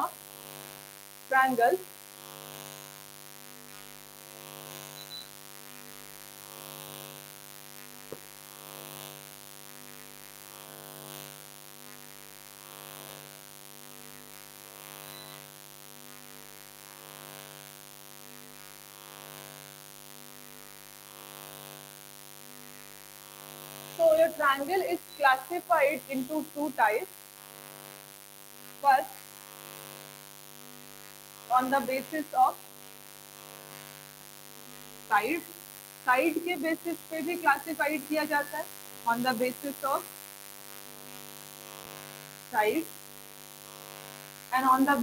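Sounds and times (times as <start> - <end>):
electrical hum: 0.0 - 45.0.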